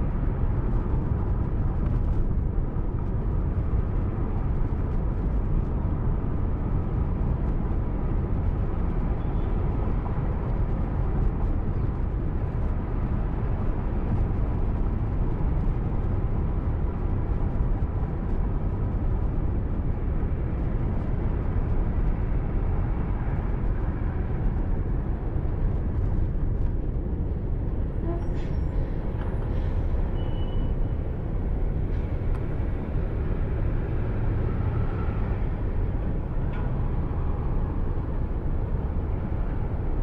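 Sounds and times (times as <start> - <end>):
car engine and tyre noise: 0.0 - 40.0.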